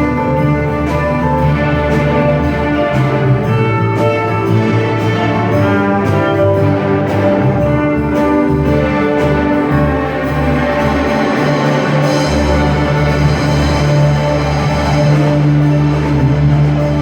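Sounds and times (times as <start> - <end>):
orchestral strings and brass chords: 0.0 - 17.0
sustained low bass line: 0.0 - 17.0.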